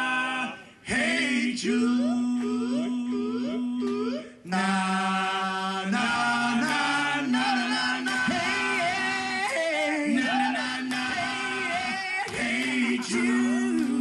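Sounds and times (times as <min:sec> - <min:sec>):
men singing without words: 0:00.0 - 0:14.0.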